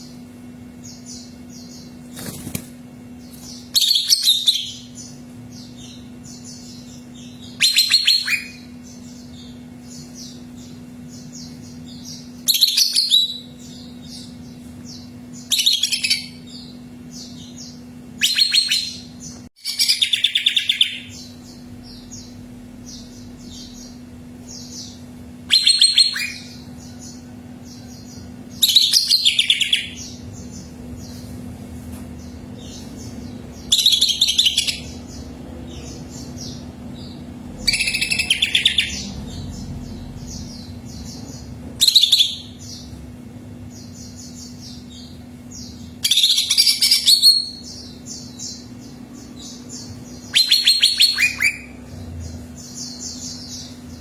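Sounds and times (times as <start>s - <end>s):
bird rapid high chattering song: 0.0s - 31.2s, 32.2s - 54.0s
soft bird chirps: 0.0s - 31.4s, 32.1s - 54.0s
steady low hum: 0.0s - 54.0s.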